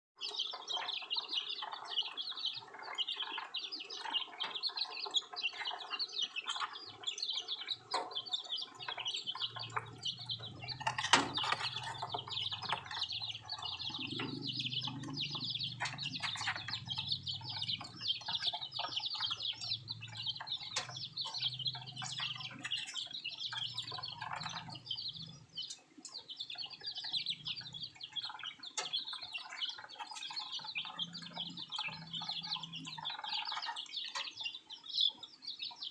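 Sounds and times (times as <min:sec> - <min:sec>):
baby birds peeping: 0:00.2 - 0:35.9.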